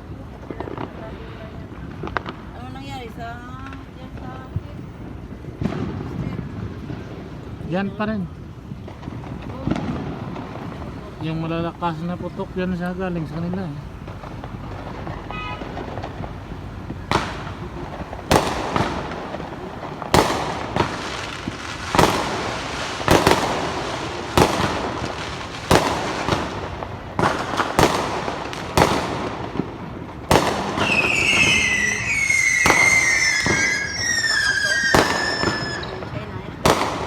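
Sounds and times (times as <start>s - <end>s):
distant crackling: 0.0s - 37.0s
firecrackers banging: 0.0s - 37.0s.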